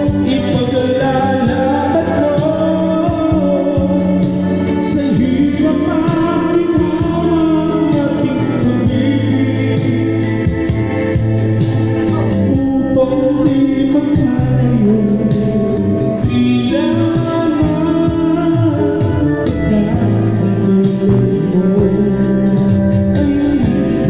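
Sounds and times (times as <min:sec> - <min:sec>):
karaoke backing track: 0:00.0 - 0:24.0
man singing into microphone: 0:00.0 - 0:24.0.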